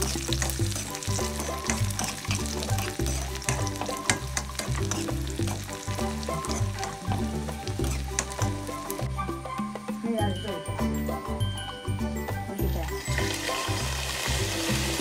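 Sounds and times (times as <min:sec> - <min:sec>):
cashews sizzling in hot oil: 0:00.0 - 0:11.8, 0:12.6 - 0:15.0
background music with bass line: 0:00.0 - 0:15.0.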